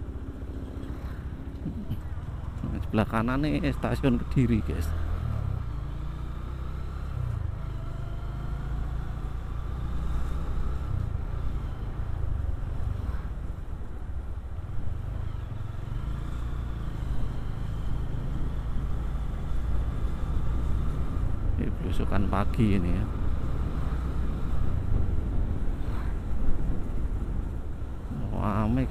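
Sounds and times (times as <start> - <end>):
motorcycle engine rumble: 0.0 - 28.9.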